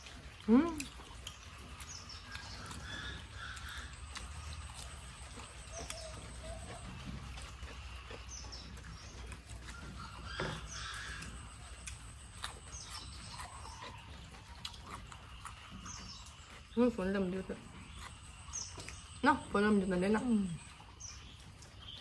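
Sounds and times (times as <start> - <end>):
birds chirping: 0.0 - 22.0
people crunching raw vegetables: 0.0 - 22.0.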